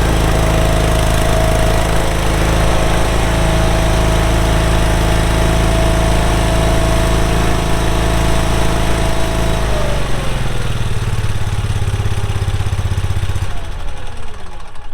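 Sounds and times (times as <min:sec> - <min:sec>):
stump grinder engine running: 0:00.0 - 0:14.9.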